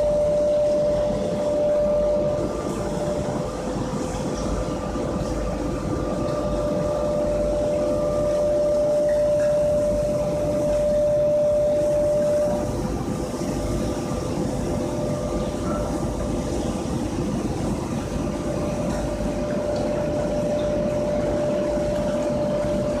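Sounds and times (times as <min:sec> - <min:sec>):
machine whine: 0:00.0 - 0:23.0
machinery rumble: 0:00.0 - 0:23.0.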